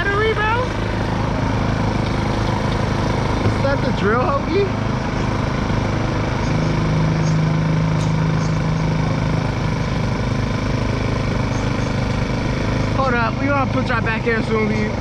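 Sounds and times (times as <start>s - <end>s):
moped engine idling: 0.0s - 15.0s.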